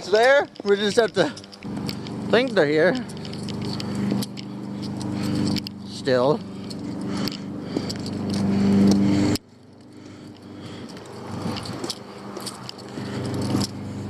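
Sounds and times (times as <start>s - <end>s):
light clicks and jingles: 0.0s - 13.9s
vehicle engine humming: 0.0s - 14.0s.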